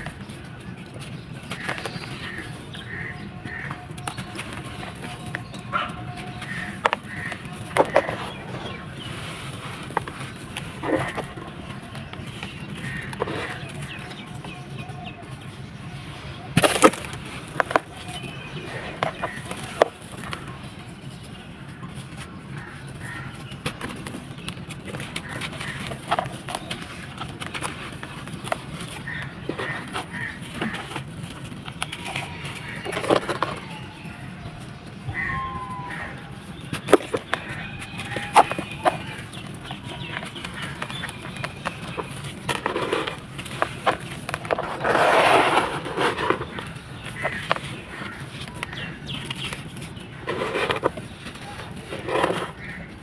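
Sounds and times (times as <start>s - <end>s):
sand-cement balls crunching: 0.0s - 53.0s.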